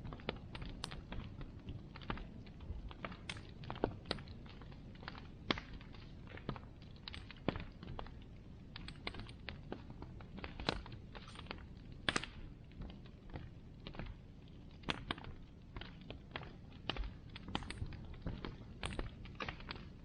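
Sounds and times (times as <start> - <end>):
bonfire crackling and popping: 0.0 - 20.0.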